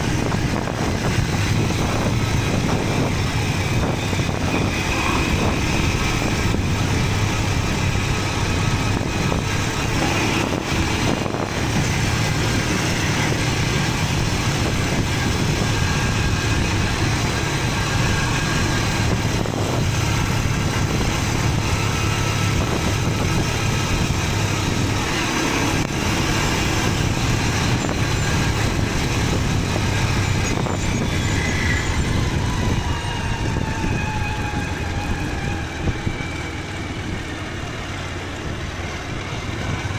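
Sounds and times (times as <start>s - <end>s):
motorcycle engine running: 0.0s - 33.4s, 34.6s - 39.9s
road and wind noise: 0.0s - 39.9s.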